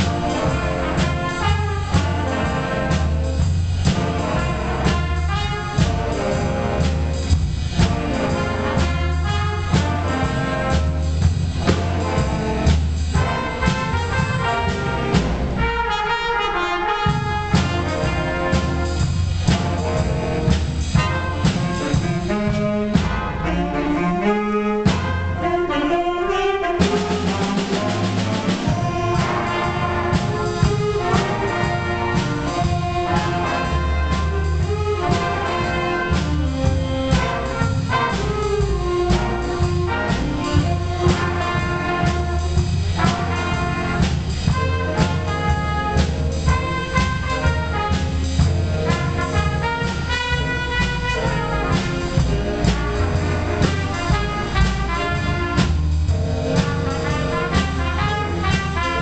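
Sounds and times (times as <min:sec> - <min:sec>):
big band playing jazz: 0:00.0 - 0:59.0.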